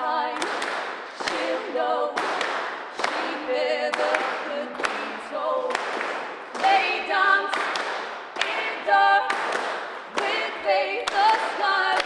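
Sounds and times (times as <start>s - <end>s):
voices singing in harmony: 0.0s - 12.0s.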